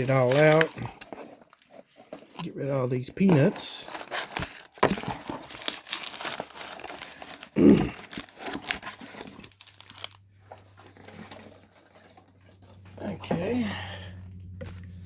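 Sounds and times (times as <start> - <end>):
packing peanuts rustling: 0.0 - 13.6.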